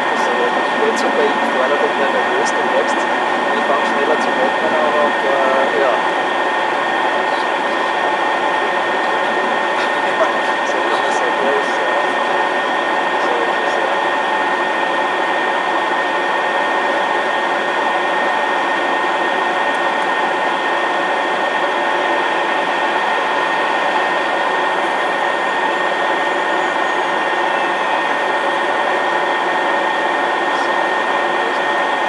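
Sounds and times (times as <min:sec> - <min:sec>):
jet engines whining: 0:00.0 - 0:32.0.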